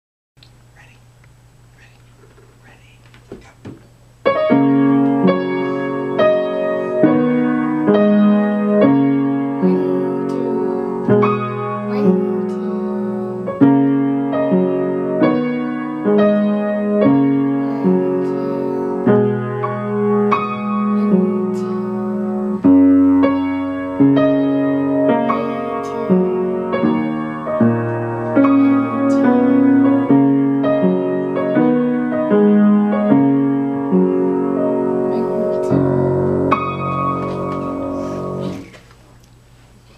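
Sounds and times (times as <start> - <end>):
piano duet: 4.2 - 38.8.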